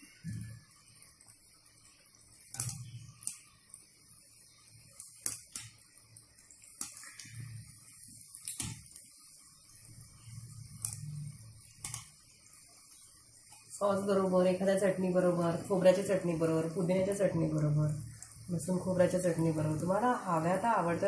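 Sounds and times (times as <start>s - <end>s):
deep-frying sizzle with pops: 0.0s - 21.0s.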